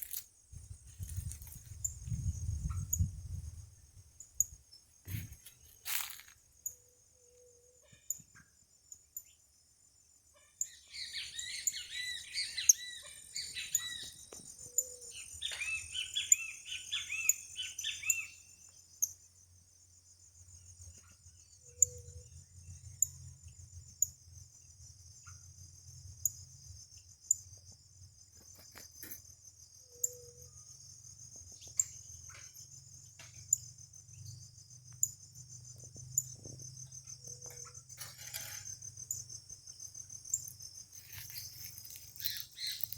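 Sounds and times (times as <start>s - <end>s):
insect trill with ticks: 0.0s - 42.9s.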